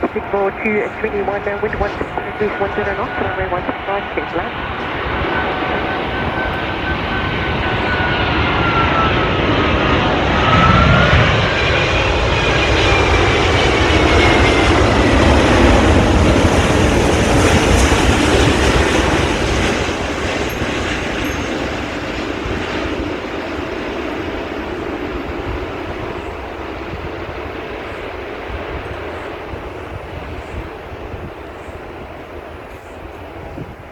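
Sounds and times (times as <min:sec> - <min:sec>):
jet engines rumbling and whining: 0:00.0 - 0:33.9.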